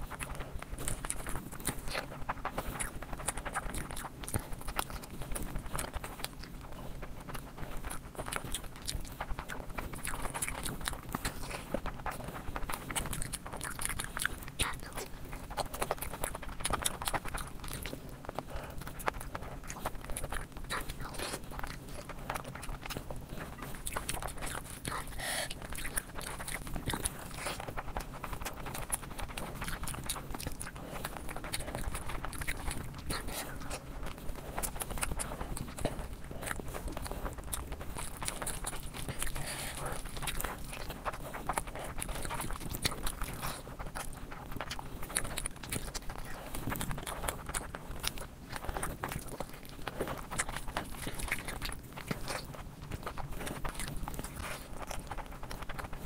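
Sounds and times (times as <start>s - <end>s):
chewing and biting food: 0.0s - 56.0s
wet mouth clicks and smacks: 0.0s - 56.0s.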